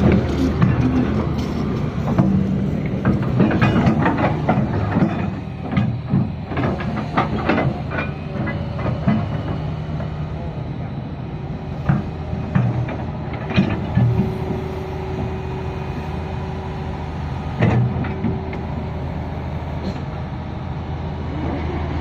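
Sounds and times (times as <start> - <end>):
excavator diesel engine humming: 0.0 - 22.0
steel tracks clanking and rattling: 0.0 - 22.0.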